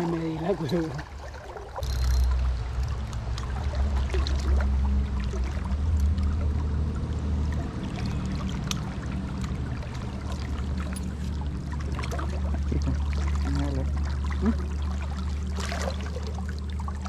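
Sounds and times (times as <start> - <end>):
small splashes: 0.0 - 17.0.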